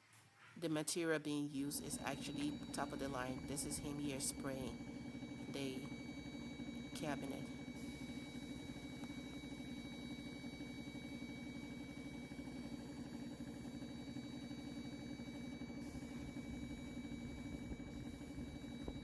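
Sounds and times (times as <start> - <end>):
paint sprayer motor humming: 1.8 - 19.0.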